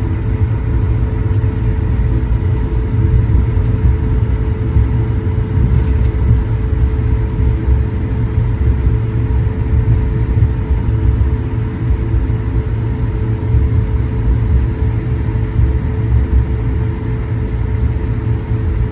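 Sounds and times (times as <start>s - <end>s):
jet engines humming: 0.0s - 18.9s
wheels rumbling on taxiway: 0.0s - 18.9s.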